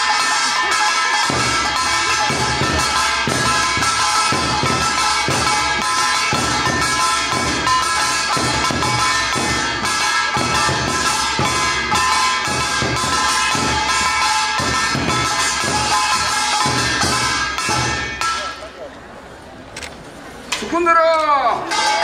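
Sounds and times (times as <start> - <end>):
tambourine-like percussion: 0.0 - 18.7
steady drum beat: 0.0 - 18.8.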